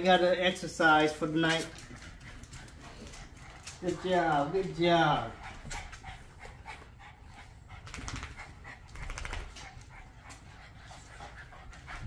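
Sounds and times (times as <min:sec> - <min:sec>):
dogs panting hard: 0:00.0 - 0:12.0.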